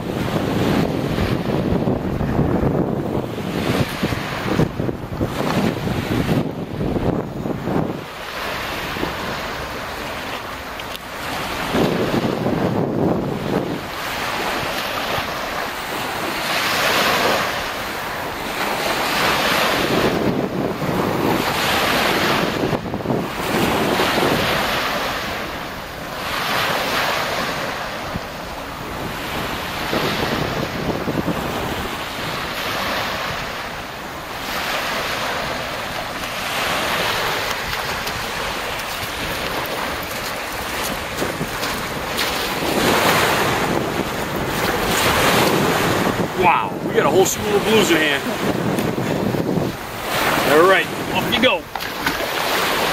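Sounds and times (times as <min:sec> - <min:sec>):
small waves washing up pebbles: 0:00.0 - 0:52.9
wind buffeting microphone: 0:00.0 - 0:52.9.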